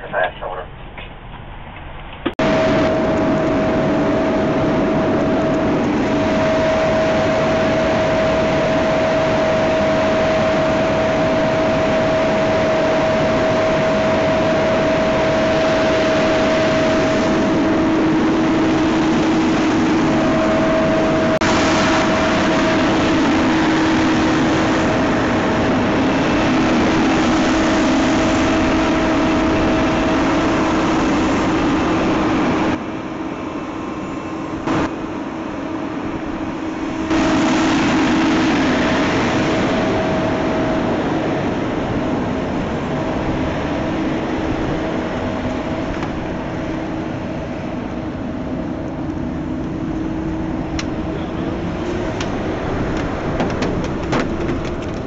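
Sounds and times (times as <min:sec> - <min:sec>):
fire engine road noise from cab: 0:00.0 - 0:55.0
steady hum: 0:02.2 - 0:55.0.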